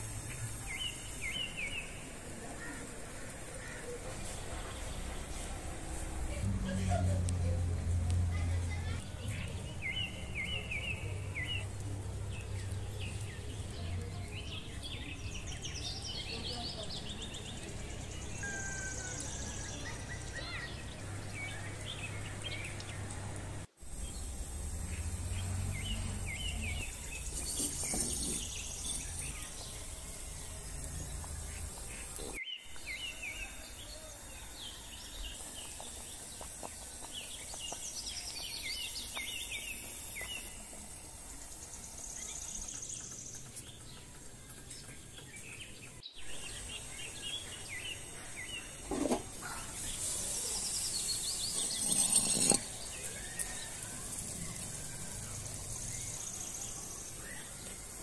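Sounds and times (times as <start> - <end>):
birds chirping: 0.0 - 58.0
outdoor background hiss: 0.0 - 58.0.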